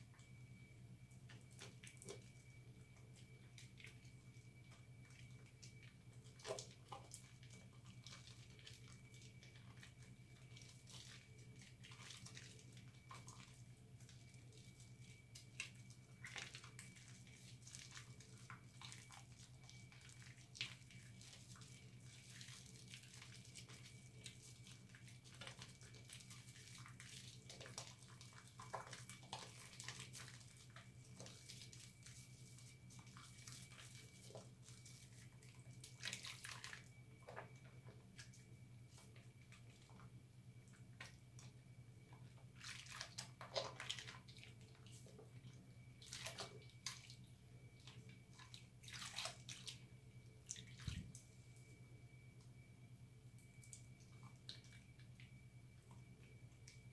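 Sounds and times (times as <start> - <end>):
steady low hum: 0.0 - 56.9
soapy hands squelching in water: 1.2 - 51.4, 53.4 - 56.9.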